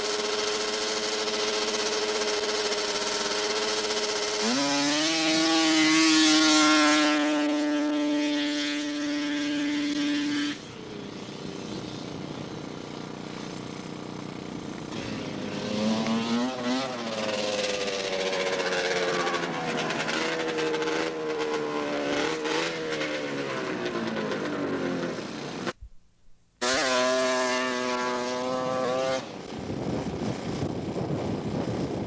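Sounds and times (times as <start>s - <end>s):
snowmobile engine revving: 0.0s - 25.8s, 26.6s - 31.6s
engine revving blips: 0.0s - 25.9s, 26.6s - 29.7s.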